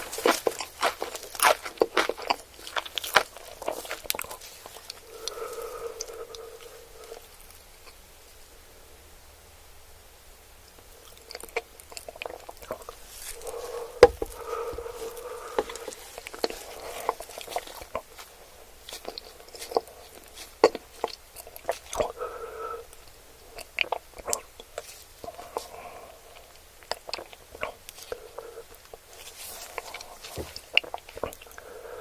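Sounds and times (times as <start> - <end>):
chewing and biting: 0.0 - 8.0, 10.7 - 31.8.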